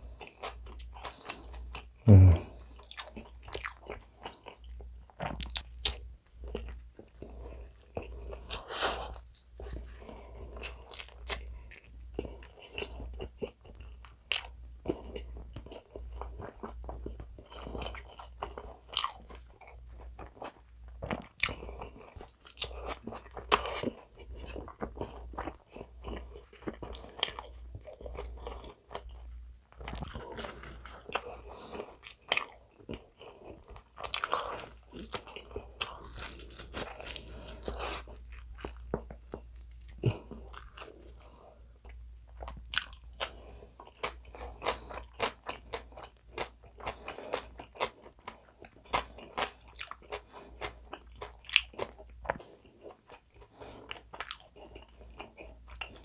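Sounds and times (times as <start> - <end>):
chewing pizza: 0.0 - 56.0.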